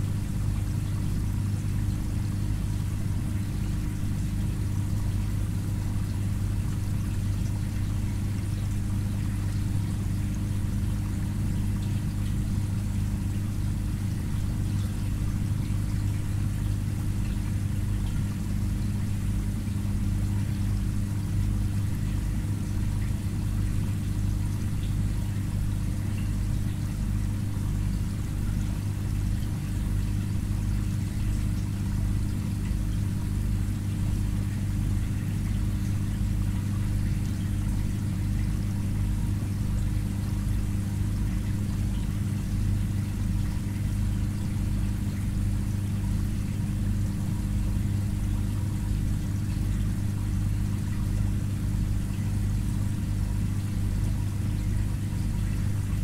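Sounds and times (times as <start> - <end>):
aquarium filter hum: 0.0 - 56.0
trickling water: 0.0 - 56.0.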